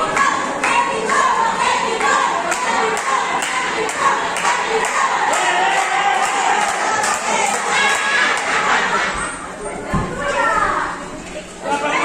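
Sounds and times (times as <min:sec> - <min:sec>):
crowd shouting and cheering: 0:00.0 - 0:12.0.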